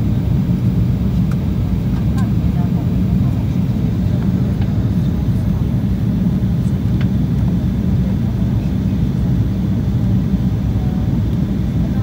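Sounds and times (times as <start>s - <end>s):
airliner engines droning: 0.0s - 12.0s.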